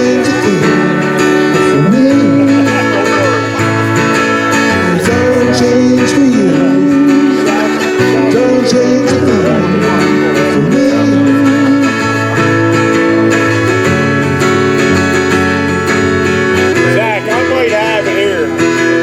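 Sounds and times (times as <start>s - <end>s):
acoustic guitar: 0.0s - 19.0s
bass line: 0.0s - 19.0s.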